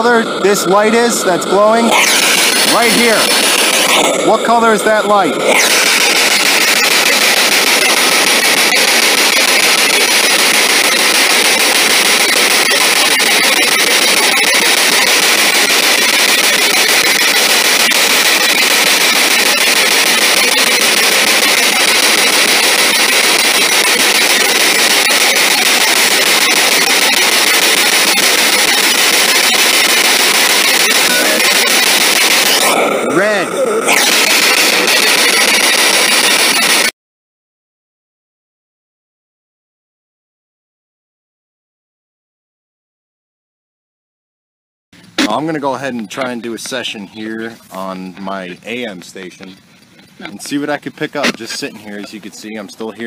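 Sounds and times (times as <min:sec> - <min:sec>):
radio static hiss: 0:00.0 - 0:37.0, 0:45.0 - 0:53.0.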